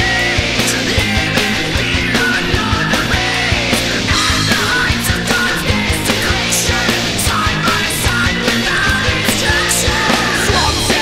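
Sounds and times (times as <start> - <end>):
bass guitar: 0.0 - 11.0
drums playing: 0.0 - 11.0
electric guitars: 0.0 - 11.0.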